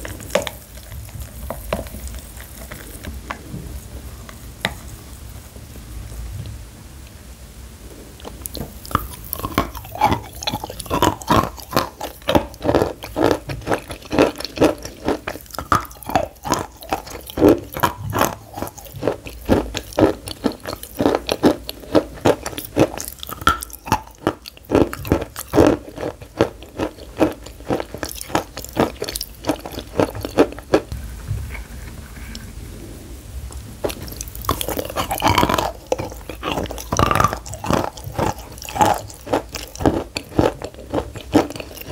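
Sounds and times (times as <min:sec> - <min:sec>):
crunching and chewing: 0:00.0 - 0:05.3, 0:08.2 - 0:32.5, 0:33.5 - 0:41.9.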